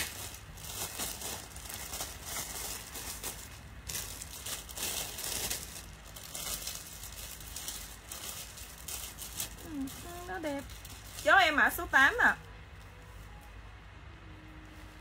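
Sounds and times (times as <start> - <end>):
cloth rustling: 0.0 - 13.6.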